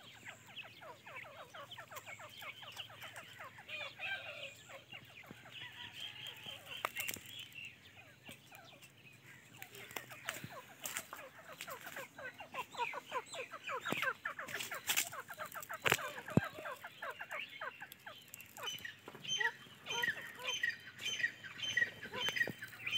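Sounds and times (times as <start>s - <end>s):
chicks chirping: 0.0s - 22.9s.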